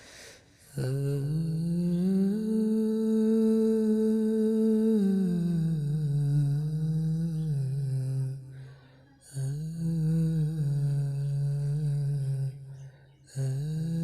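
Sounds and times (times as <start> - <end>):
person humming a slow melody: 0.6 - 14.0.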